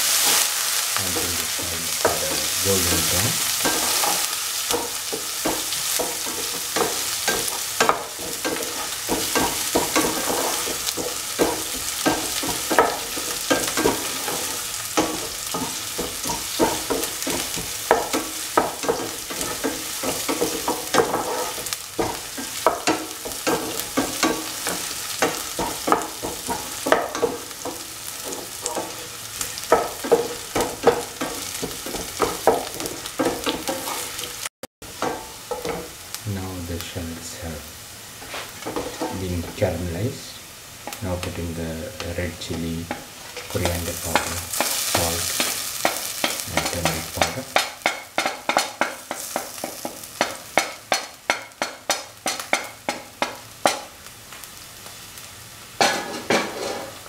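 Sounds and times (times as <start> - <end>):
spatula scraping a pan: 0.0 - 36.1, 38.2 - 39.8, 42.4 - 53.0, 55.8 - 57.0
food sizzling in hot oil: 0.0 - 57.0.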